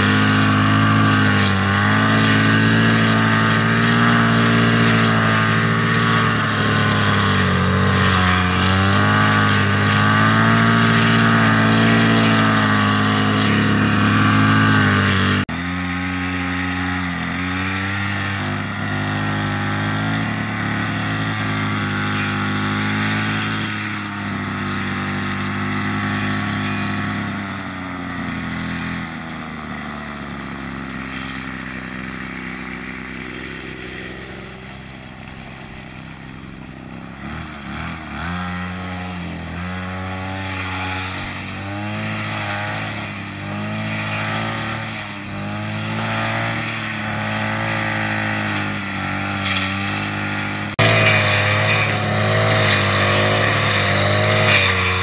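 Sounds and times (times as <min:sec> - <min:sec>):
small engine revving: 0:00.0 - 0:55.0.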